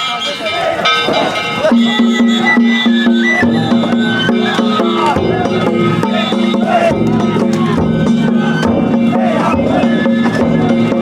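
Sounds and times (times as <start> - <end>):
drums and wood block percussion: 0.0 - 11.0
stepping melody line: 0.9 - 11.0.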